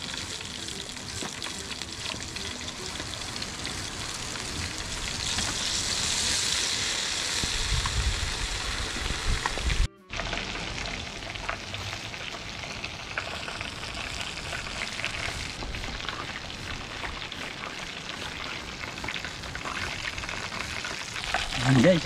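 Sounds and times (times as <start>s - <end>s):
chicken deep-frying in hot oil: 0.0s - 22.0s.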